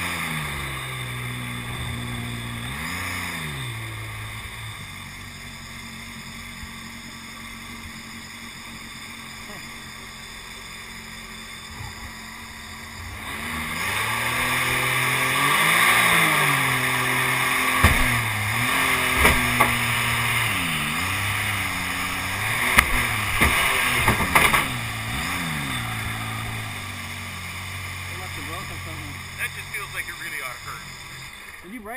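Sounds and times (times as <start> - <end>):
boat engine revving: 0.0 - 31.9.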